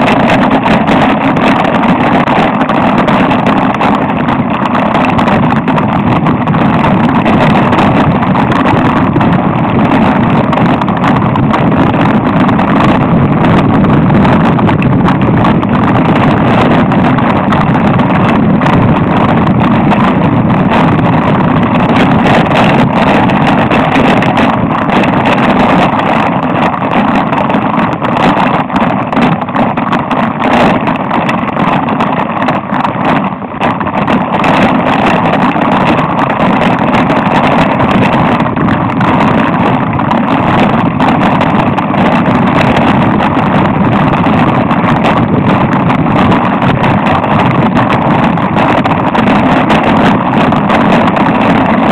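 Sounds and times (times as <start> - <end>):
bike rattling over bumps: 0.0 - 51.9
tyres rumbling on loose dirt: 0.0 - 51.9.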